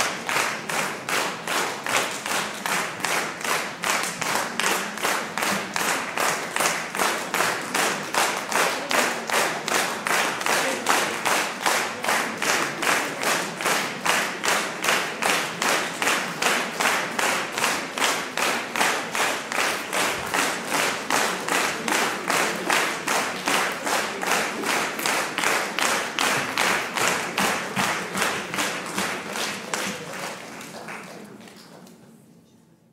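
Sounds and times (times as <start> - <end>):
audience applauding: 0.0 - 31.5
rhythmic clapping: 0.0 - 31.6.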